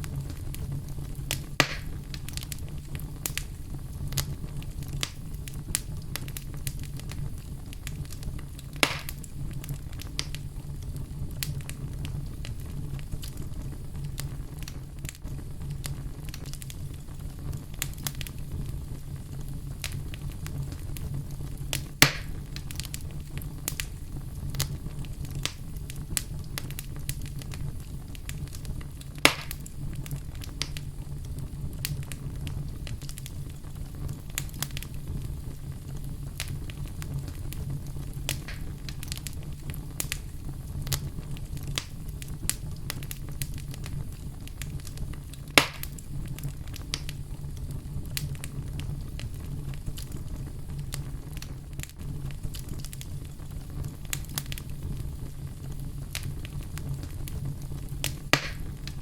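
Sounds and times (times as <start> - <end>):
fire crackling: 0.0 - 59.0
fire flames rumbling: 0.0 - 59.0
wood fire pops: 0.0 - 59.0.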